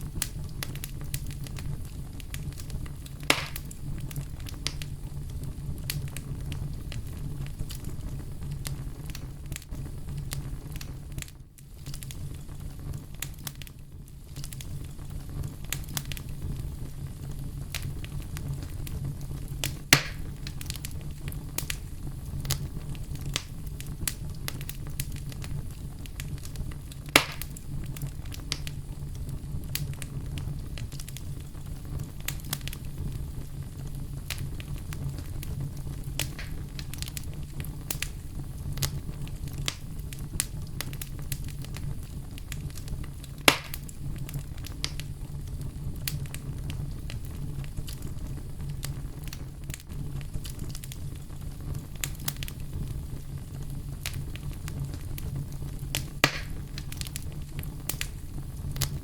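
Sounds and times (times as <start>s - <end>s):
campfire crackling: 0.0s - 59.0s
sharp fire pops: 0.0s - 59.0s.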